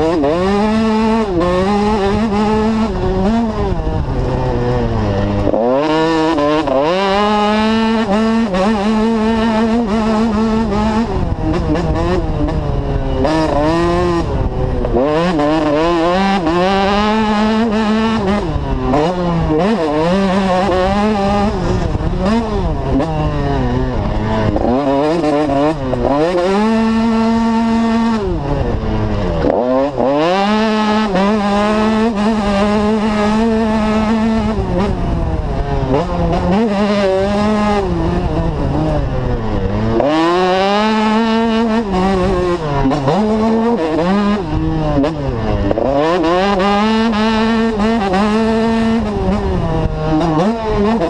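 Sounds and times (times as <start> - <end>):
motocross bike engine revving: 0.0 - 51.0.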